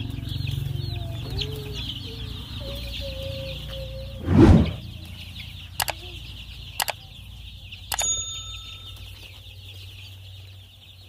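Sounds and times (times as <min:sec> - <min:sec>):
chicks peeping: 0:00.0 - 0:04.2, 0:04.8 - 0:07.9, 0:08.8 - 0:11.0.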